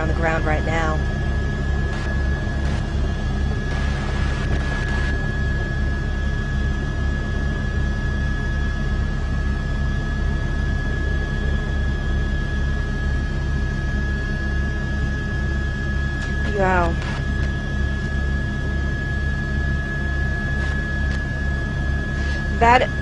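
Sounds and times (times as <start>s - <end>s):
helicopter rotor beat: 0.0s - 23.0s
helicopter turbine whine: 0.0s - 23.0s.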